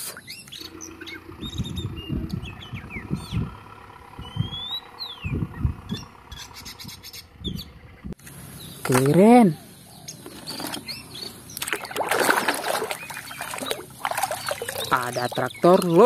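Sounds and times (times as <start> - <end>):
birds chirping: 0.0 - 16.0
forklift engine humming: 0.0 - 16.0.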